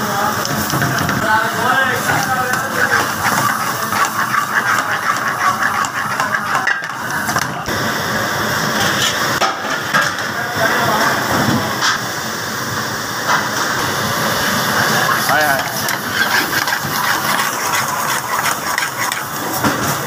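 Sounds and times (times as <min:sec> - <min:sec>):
gas burner rushing: 0:00.0 - 0:20.0.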